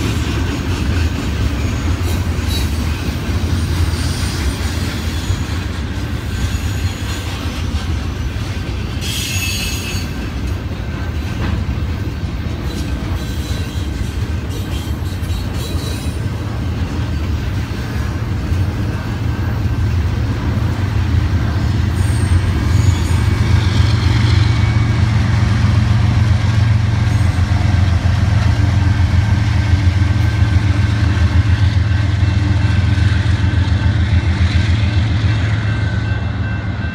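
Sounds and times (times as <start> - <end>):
diesel locomotive engine throbbing: 0.0 - 36.9
train wheels rumbling on rails: 0.0 - 36.9.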